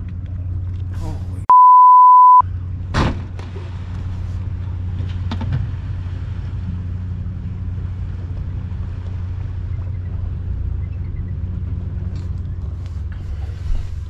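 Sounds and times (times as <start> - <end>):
boat engine droning: 2.4 - 14.0.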